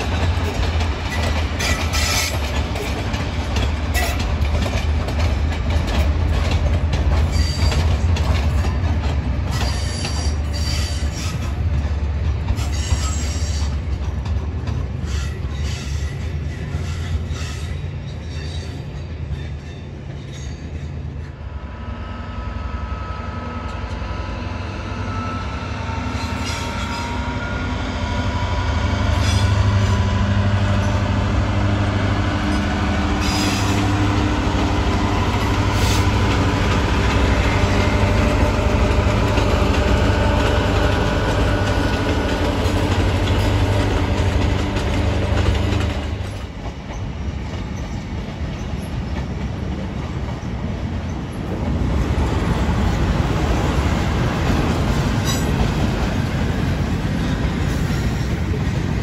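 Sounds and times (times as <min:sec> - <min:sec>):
train wheels rolling: 0:00.0 - 0:21.8, 0:22.8 - 0:59.0
diesel locomotive engine drone: 0:00.0 - 0:59.0.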